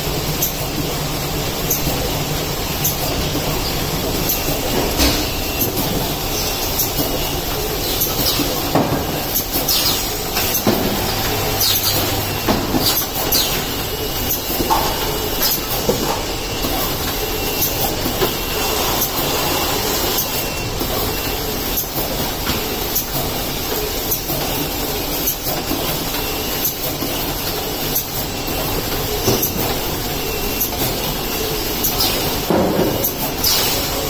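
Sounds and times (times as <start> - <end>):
packing machine running: 0.0 - 34.0.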